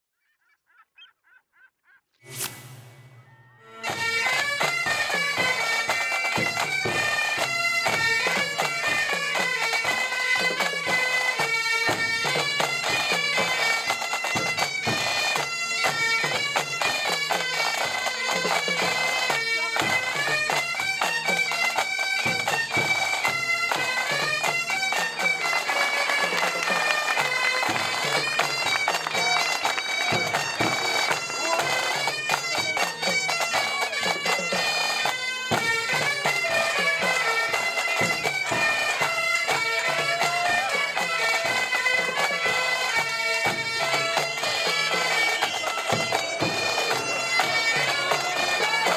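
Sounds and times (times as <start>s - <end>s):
bagpipes playing a tune: 3.6s - 48.9s.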